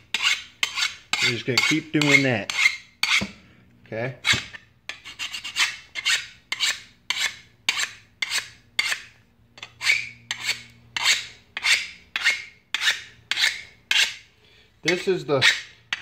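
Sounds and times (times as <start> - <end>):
file rasping on steel blade: 0.0 - 3.3, 4.2 - 16.0.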